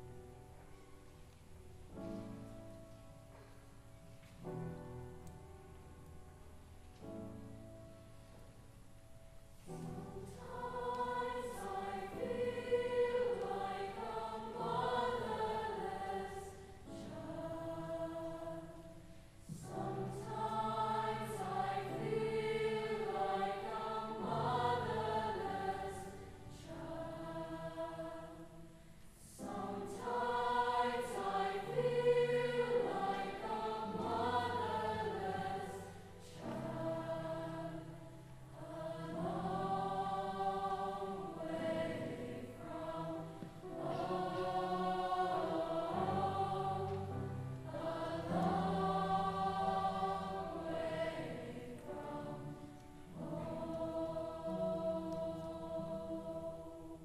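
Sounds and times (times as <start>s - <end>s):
youth choir singing: 10.0s - 57.0s.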